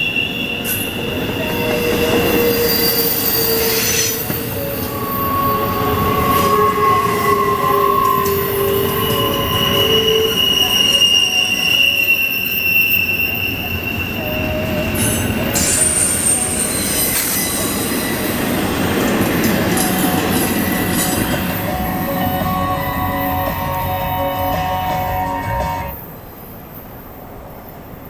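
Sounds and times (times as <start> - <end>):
train wheels squealing on rail: 0.0 - 26.4
rumble of train cars: 0.0 - 28.0.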